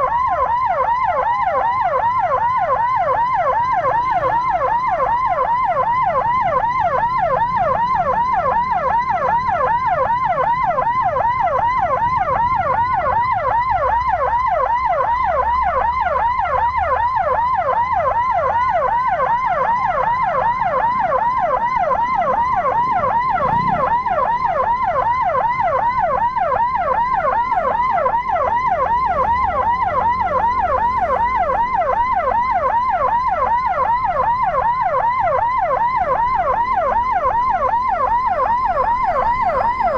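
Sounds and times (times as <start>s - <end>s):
electronic siren yelp: 0.0s - 39.9s
low vehicle rumble: 0.0s - 39.9s.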